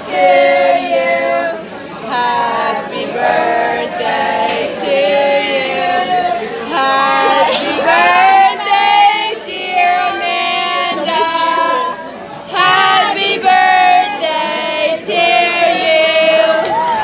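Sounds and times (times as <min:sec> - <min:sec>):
group singing together: 0:00.0 - 0:17.0.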